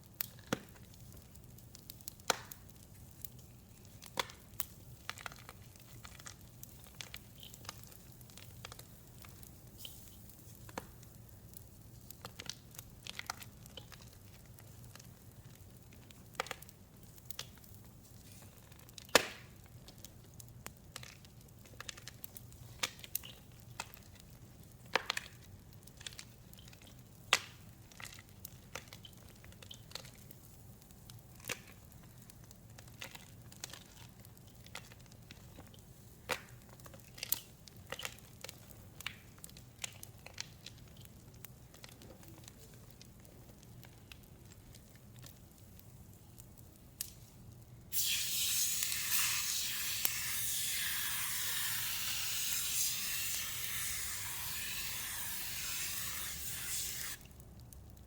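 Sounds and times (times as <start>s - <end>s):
crushing powder crackles by hand: 0.0s - 58.0s.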